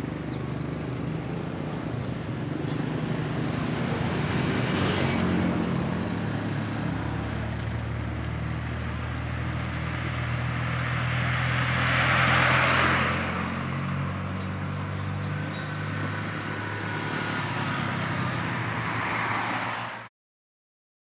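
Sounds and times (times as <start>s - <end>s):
traffic engine hum: 0.0s - 20.1s
vehicle passing close: 0.5s - 20.0s.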